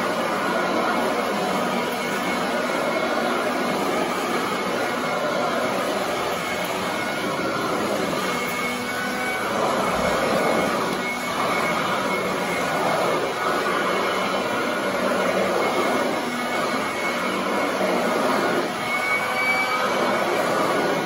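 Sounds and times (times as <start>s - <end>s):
upright vacuum cleaner on carpet: 0.0s - 21.0s.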